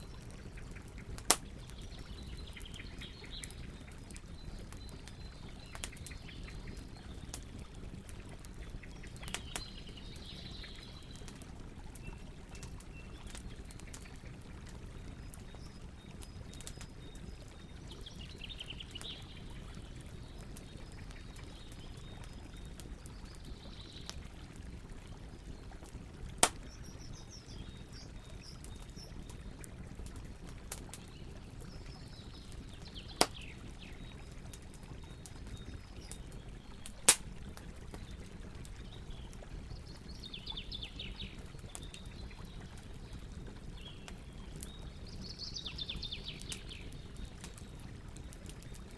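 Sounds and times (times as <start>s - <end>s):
campfire crackling and popping: 0.0s - 48.9s.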